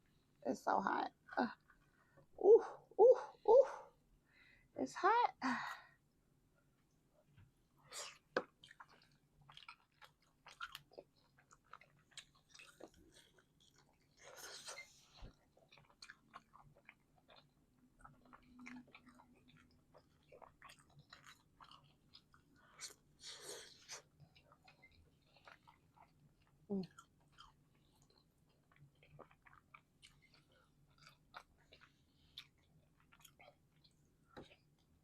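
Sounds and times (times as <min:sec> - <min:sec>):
person chewing food: 0:06.8 - 0:35.0.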